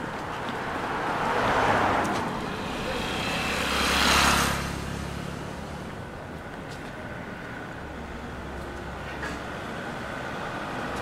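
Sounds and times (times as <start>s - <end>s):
steady city hum: 0.0s - 11.0s
vehicles passing close by: 0.0s - 11.0s.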